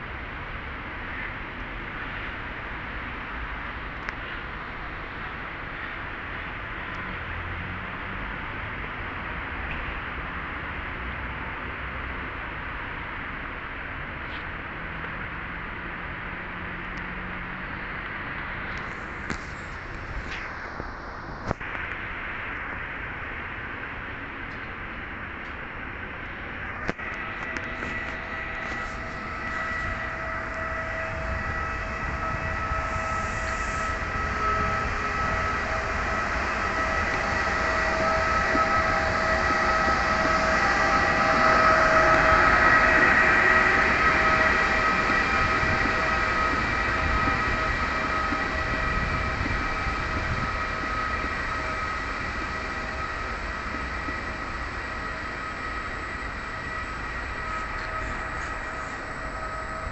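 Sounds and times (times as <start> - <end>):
locomotive high whine: 0.0 - 59.9
train wheels rumbling: 0.0 - 59.9.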